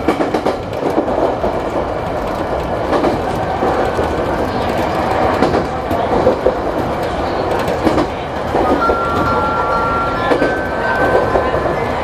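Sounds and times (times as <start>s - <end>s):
train rolling noise: 0.0s - 12.0s
wheels clacking over rail joints: 0.0s - 12.0s.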